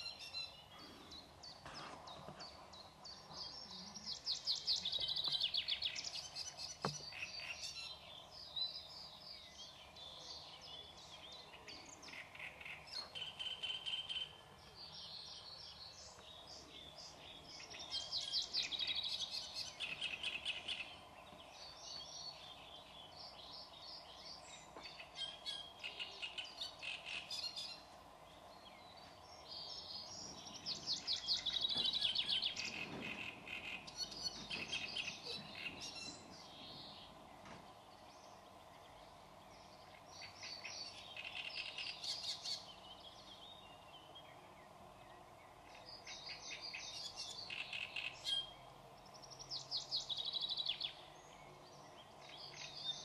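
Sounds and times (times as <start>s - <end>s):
faint steady background hum: 0.0s - 53.0s
songbirds chirping: 0.0s - 53.0s.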